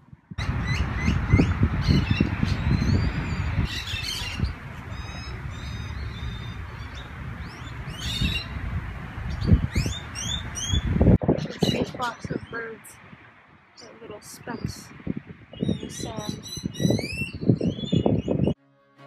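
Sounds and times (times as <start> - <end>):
wind rumble on microphone: 0.0 - 18.6
birds chirping and calling: 0.4 - 13.0, 13.8 - 18.6.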